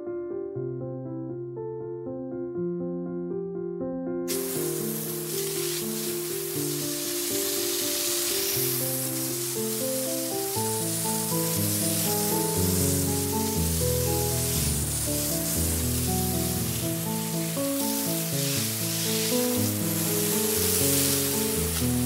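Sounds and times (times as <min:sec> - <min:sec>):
slow background music: 0:03.9 - 0:22.0
sprinkler water spray hiss: 0:04.3 - 0:22.0.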